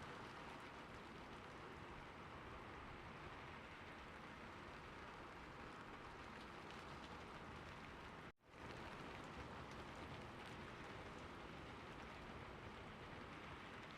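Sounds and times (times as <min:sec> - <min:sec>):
rainfall hiss: 0:00.0 - 0:13.9.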